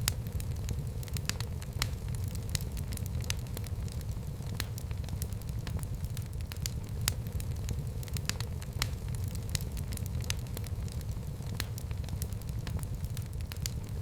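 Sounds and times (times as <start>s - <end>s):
fire crackles and pops: 0.0s - 14.0s
wood fire burning: 0.0s - 14.0s.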